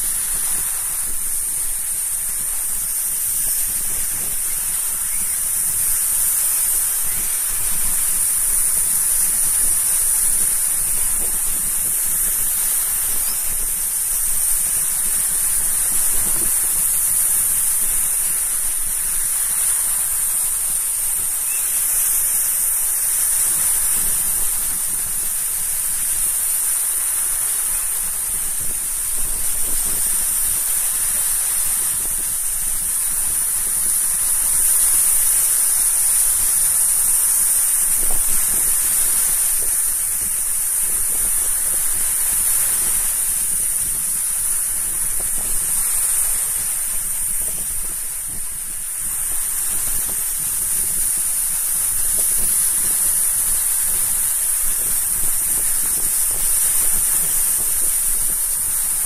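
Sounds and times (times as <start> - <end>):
small waves breaking on shore: 0.0 - 59.0.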